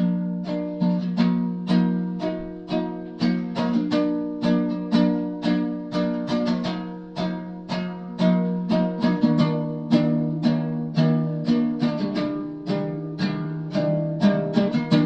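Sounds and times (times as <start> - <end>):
ukulele strumming: 0.0 - 15.0.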